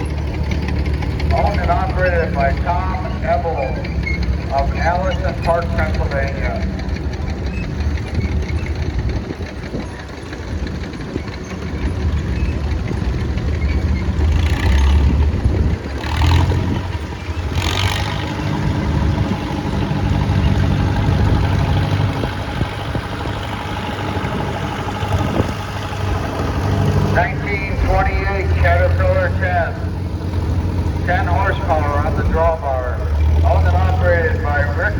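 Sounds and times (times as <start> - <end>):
crawler tractor diesel engine: 0.0 - 34.9.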